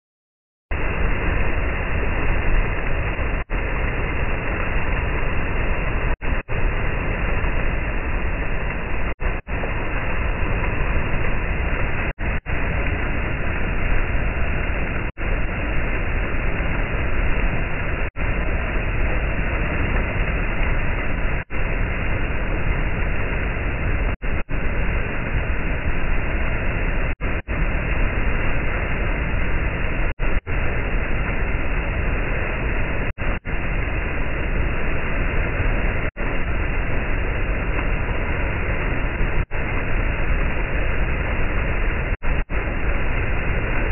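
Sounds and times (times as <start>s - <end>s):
turbulent floodwater rushing: 0.7s - 43.9s.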